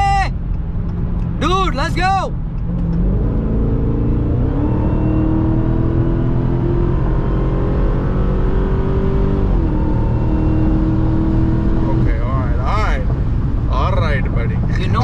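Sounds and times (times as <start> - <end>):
car engine accelerating: 0.5 - 15.0.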